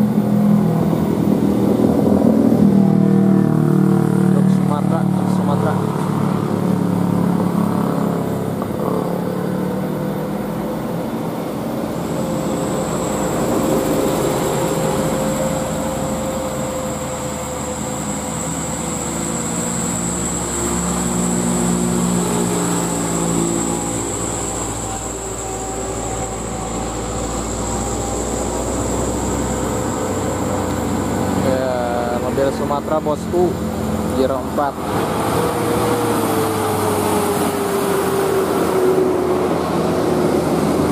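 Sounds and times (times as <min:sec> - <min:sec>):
truck diesel engines climbing: 0:00.0 - 0:40.9.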